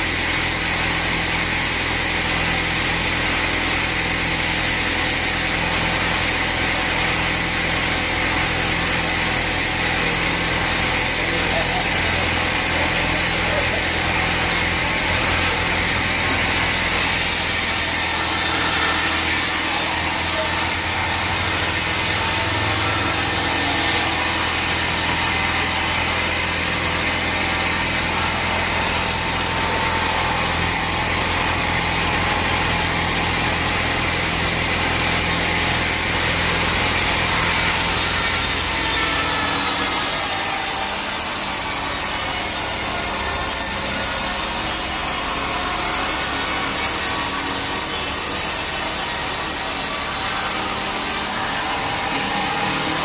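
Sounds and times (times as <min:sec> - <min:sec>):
loud sawmill whirring: 0:00.0 - 0:53.0.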